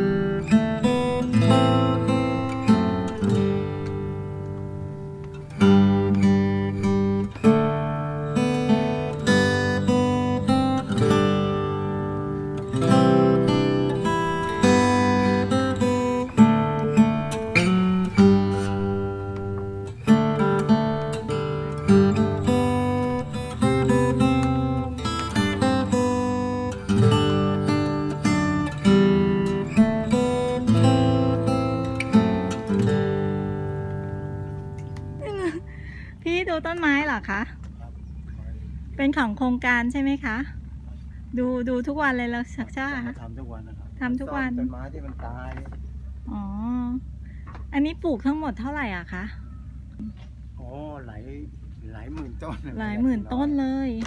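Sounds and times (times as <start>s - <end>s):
acoustic guitar strumming: 0.0s - 50.4s.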